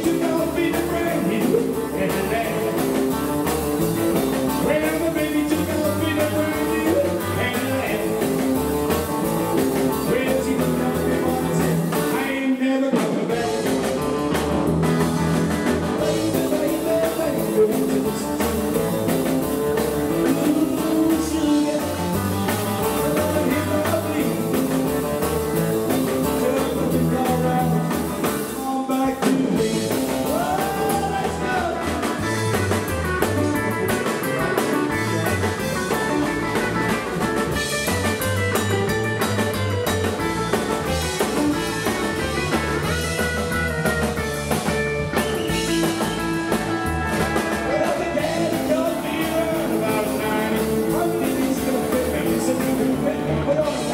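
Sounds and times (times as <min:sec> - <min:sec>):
rockabilly band playing live: 0:00.0 - 0:53.9.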